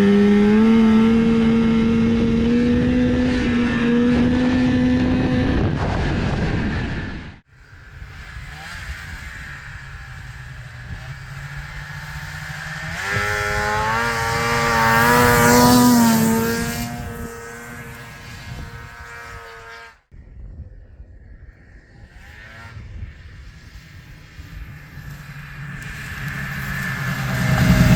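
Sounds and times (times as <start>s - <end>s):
snowmobile two-stroke engine: 0.0s - 20.0s, 21.3s - 27.9s.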